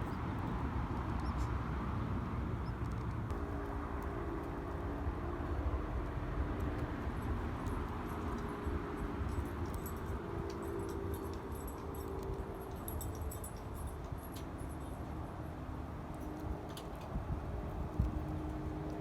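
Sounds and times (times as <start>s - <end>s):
vehicle traffic hum: 0.0s - 19.0s.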